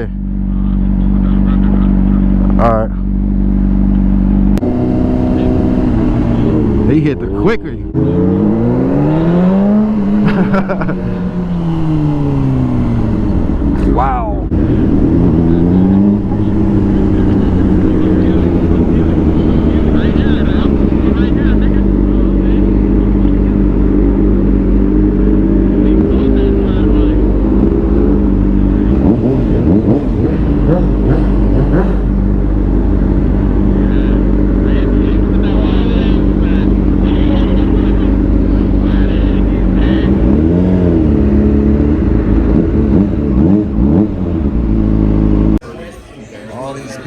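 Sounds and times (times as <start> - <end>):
motorcycle engines accelerating: 0.0 - 47.0
wind and road noise: 0.0 - 47.0.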